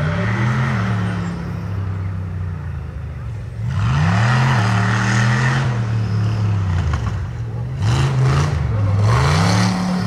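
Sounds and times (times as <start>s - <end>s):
buggy engine revving: 0.0s - 10.0s.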